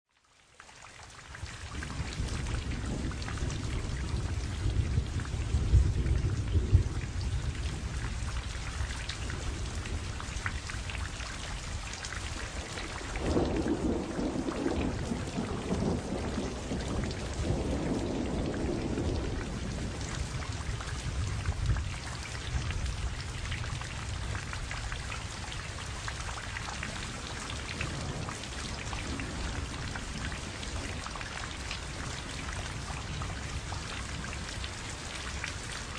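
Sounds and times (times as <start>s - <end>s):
steady rain falling: 0.1s - 35.9s
low rumbles of thunder: 1.5s - 35.9s.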